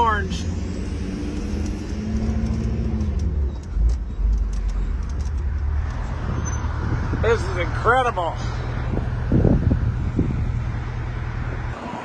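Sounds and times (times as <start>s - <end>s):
car engine hum: 0.0s - 12.0s
road noise rumble inside car: 0.0s - 12.0s.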